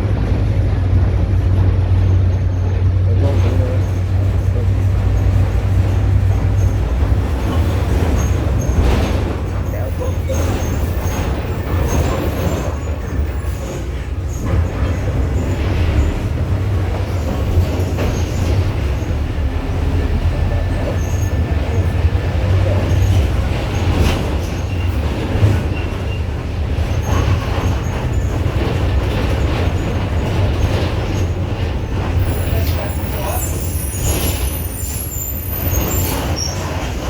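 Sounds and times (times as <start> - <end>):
bus diesel engine drone: 0.0 - 34.2
road noise: 0.0 - 37.0.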